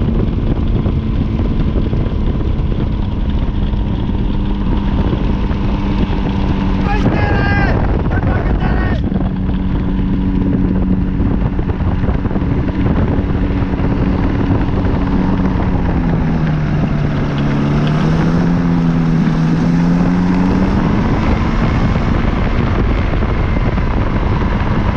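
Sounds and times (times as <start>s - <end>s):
two-stroke engine running: 0.0s - 24.9s.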